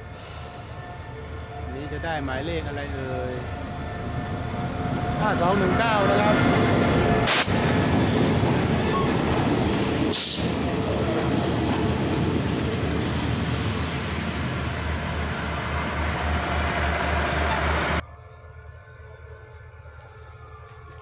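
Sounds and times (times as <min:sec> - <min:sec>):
passenger train rolling past: 0:00.0 - 0:21.0.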